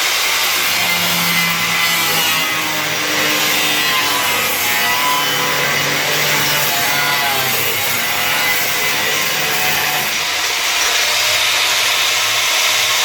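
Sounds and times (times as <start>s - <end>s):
power tool grinding metal: 0.0s - 12.9s.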